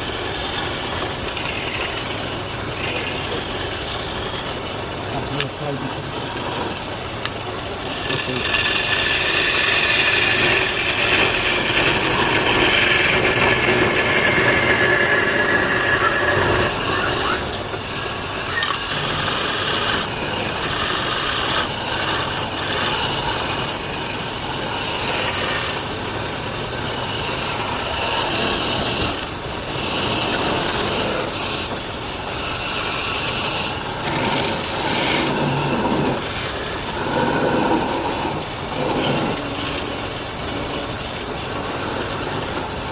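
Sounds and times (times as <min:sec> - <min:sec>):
power tool cutting wood: 0:00.0 - 0:42.9.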